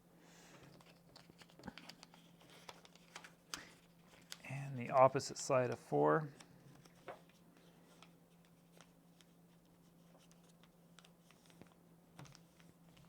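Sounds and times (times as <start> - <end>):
low steady hum: 0.0 - 13.0
paper being folded: 0.7 - 13.0.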